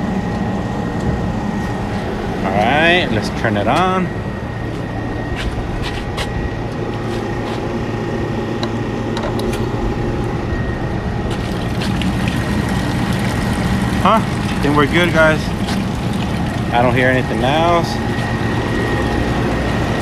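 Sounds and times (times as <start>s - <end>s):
cooler blower humming: 0.0s - 20.0s
faint high whine: 0.0s - 20.0s.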